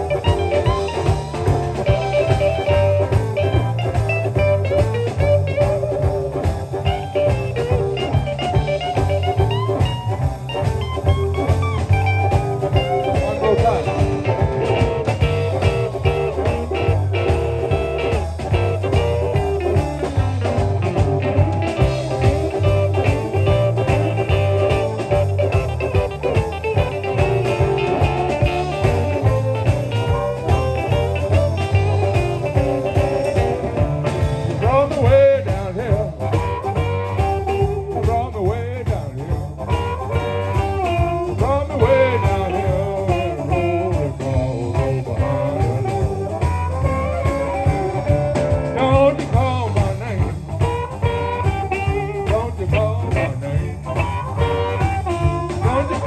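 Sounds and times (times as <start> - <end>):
amplified harmonica solo: 0.0 - 38.3, 39.0 - 49.3, 50.0 - 56.0
drums: 0.0 - 56.0
electric bass: 0.0 - 56.0
electric guitars: 0.0 - 56.0.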